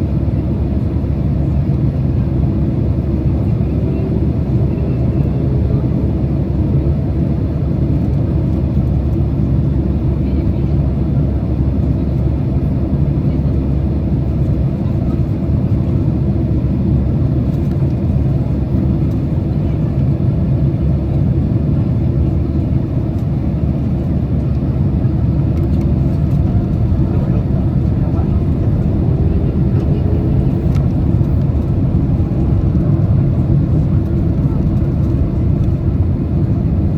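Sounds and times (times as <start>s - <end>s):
aircraft cabin engine rumble: 0.0s - 36.9s.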